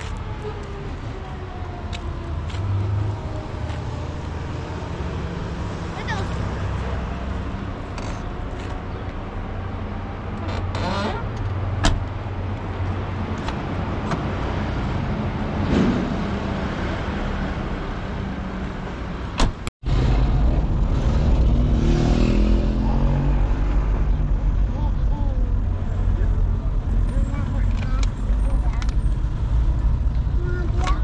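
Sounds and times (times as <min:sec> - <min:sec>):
car driving in traffic: 0:00.0 - 0:31.0.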